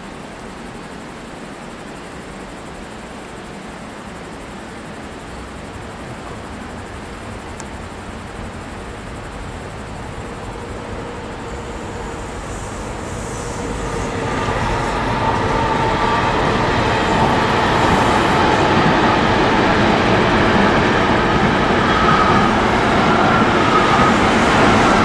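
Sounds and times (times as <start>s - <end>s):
electric train rumbling: 0.0s - 25.0s
faint whining tones: 0.0s - 25.0s.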